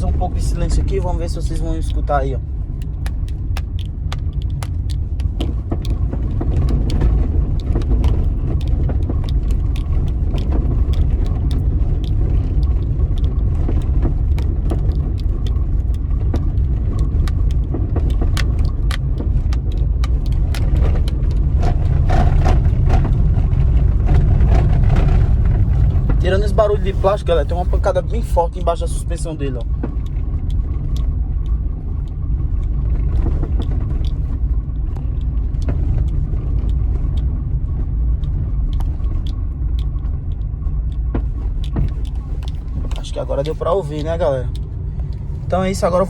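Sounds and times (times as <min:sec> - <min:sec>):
low road rumble: 0:00.0 - 0:46.0
suspension knocking: 0:00.0 - 0:46.0.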